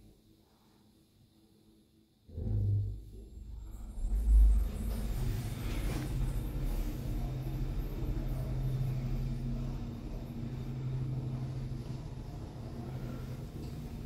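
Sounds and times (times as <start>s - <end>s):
lift car humming and rumbling: 2.3s - 14.0s.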